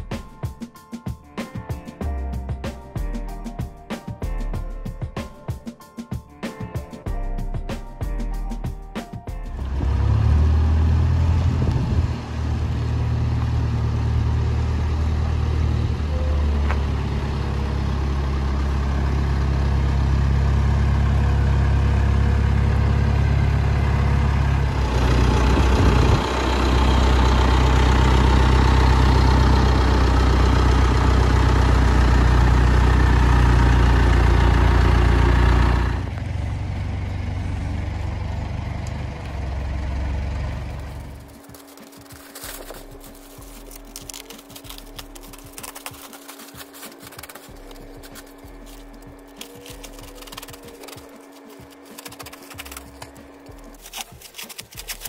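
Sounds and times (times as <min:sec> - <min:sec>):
tractor engine running: 0:09.4 - 0:55.0.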